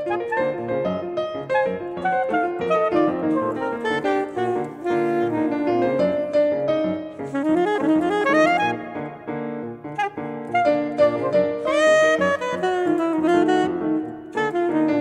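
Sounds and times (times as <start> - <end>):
grand piano: 0.0 - 15.0
soprano saxophone: 0.0 - 15.0.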